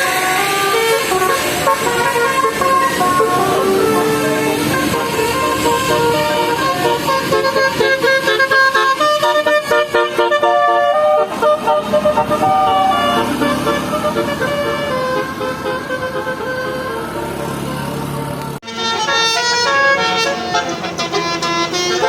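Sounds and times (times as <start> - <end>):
bus engine running: 0.0 - 22.0
multi-tone bus horn tune: 0.0 - 22.0.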